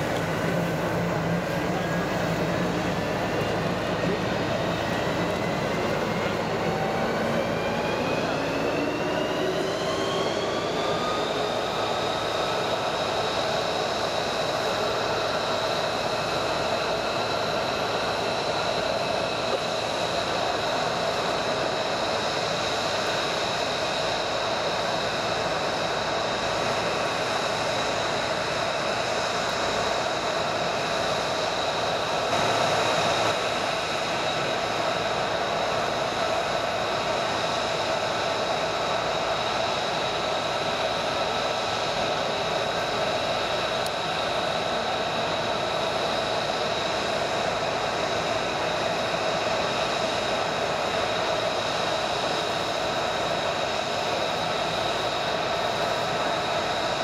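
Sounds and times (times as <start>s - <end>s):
jet engine idling with whine: 0.0s - 57.0s.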